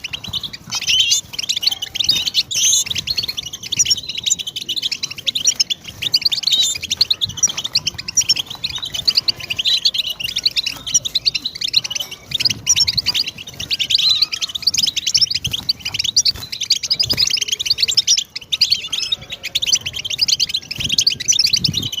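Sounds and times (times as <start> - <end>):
bird twittering song: 0.0 - 22.0.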